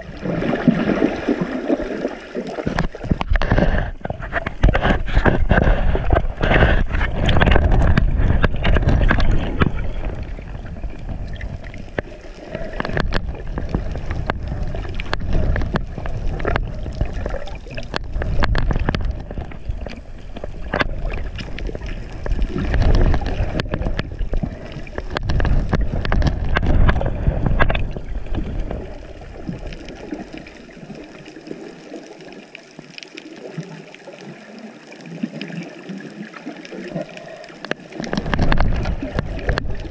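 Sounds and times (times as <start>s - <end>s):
muffled underwater water rushing: 0.0s - 39.9s.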